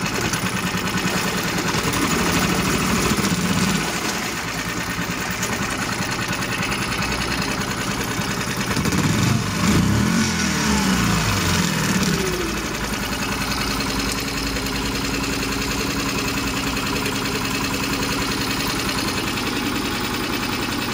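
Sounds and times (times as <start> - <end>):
outboard motor running: 0.0 - 20.9.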